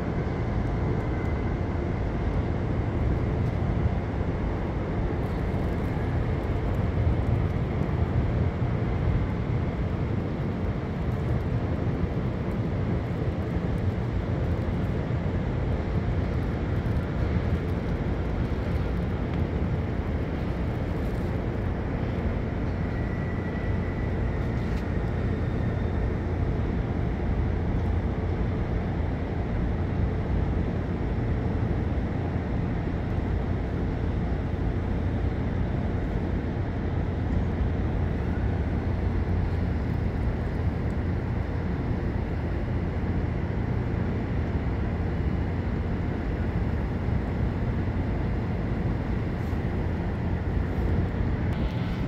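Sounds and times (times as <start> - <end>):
city traffic rumble: 0.0 - 52.0.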